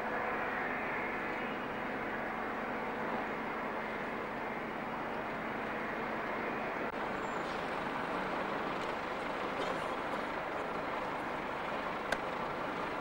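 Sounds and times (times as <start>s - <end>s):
heavy vehicle running: 0.0s - 13.0s.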